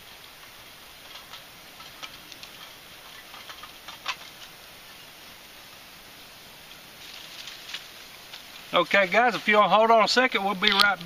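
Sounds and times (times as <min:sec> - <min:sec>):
twig fire crackling: 0:00.0 - 0:11.0.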